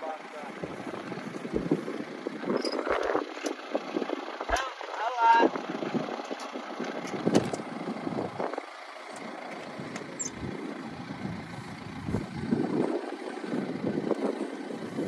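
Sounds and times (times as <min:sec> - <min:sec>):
wind buffeting microphone: 0:00.5 - 0:15.0.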